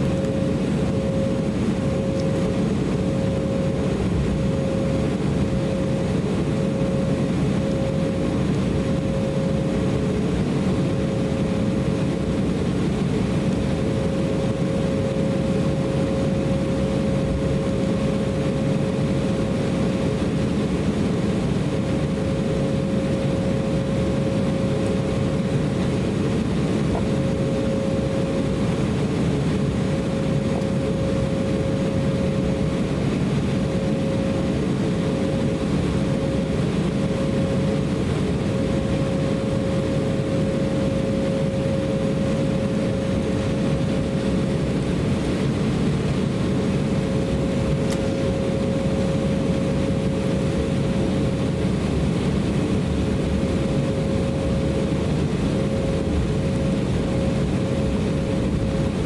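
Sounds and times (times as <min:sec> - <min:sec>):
jet engines rumbling in cabin: 0:00.0 - 0:59.0
steady hum: 0:00.0 - 0:59.0.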